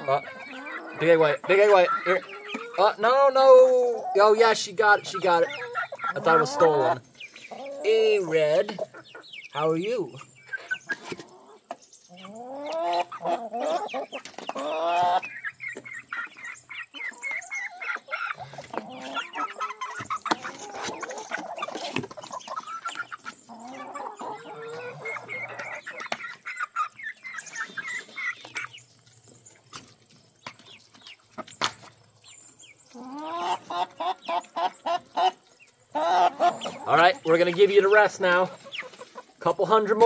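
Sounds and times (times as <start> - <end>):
chickens clucking and calling: 0.0 - 40.0.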